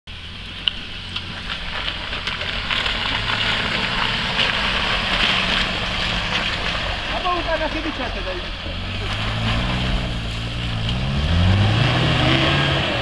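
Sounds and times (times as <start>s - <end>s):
car engine running: 0.1s - 13.0s.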